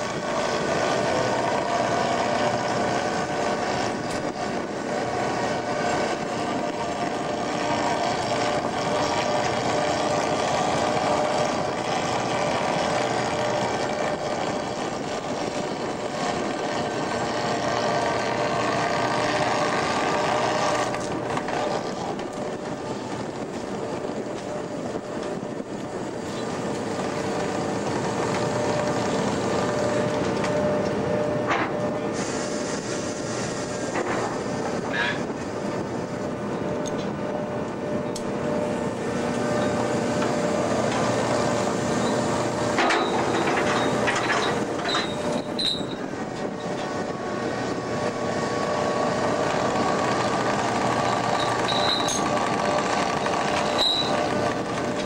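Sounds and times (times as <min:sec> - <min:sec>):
boat engine and machinery drone: 0:00.0 - 0:55.0.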